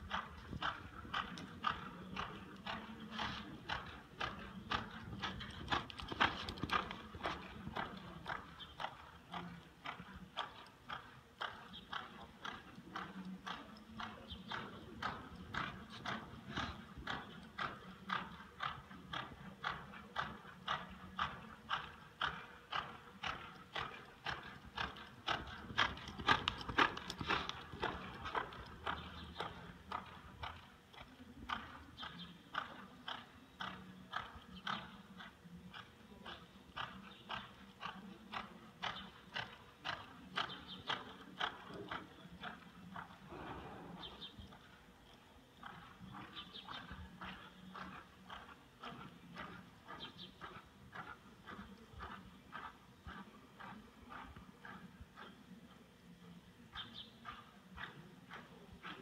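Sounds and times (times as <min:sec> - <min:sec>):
horse hoofbeats on dirt: 0:00.0 - 0:59.0.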